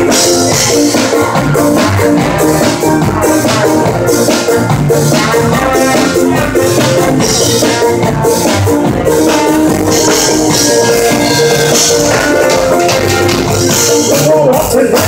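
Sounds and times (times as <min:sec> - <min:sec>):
trombone long notes: 0:00.0 - 0:14.6
drum kit and percussion beat: 0:00.0 - 0:15.0
strummed guitars: 0:00.0 - 0:15.0.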